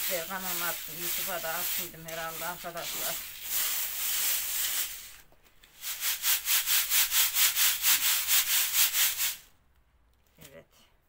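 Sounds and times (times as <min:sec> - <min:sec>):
sieve shaken with swishes: 0:00.0 - 0:05.2, 0:05.8 - 0:09.5
hands rubbing grain in sieve: 0:00.0 - 0:09.5.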